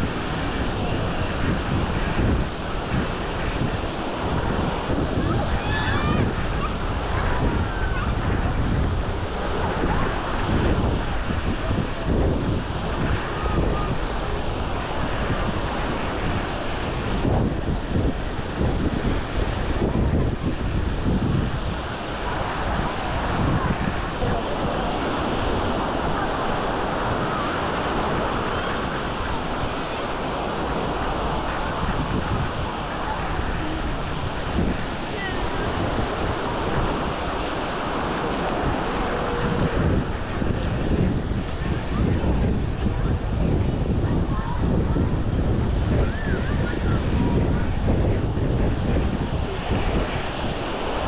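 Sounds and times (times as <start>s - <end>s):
faint voices: 0.0s - 51.0s
waves washing onto sand: 0.0s - 51.0s
wind on microphone: 0.0s - 51.0s.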